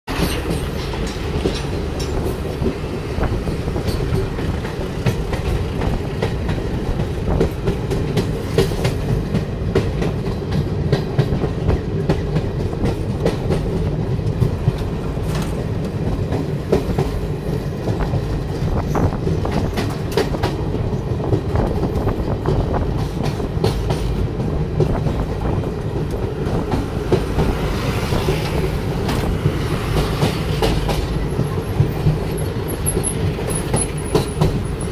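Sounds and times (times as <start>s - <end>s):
rail joint clacks: 0.1s - 34.9s
train wheels rumbling on rail: 0.1s - 34.9s.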